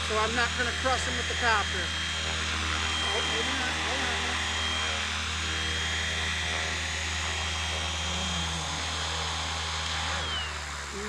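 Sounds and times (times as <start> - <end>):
high whine: 0.0 - 11.0
rc helicopter rotor drone: 0.0 - 11.0.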